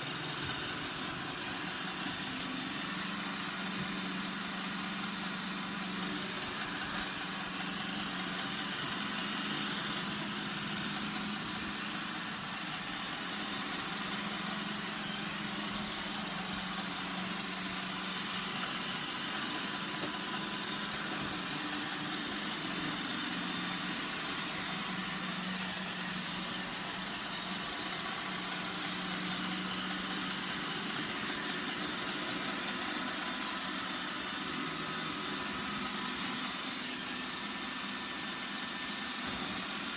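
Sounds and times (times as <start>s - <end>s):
robot vacuum humming: 0.0s - 39.9s.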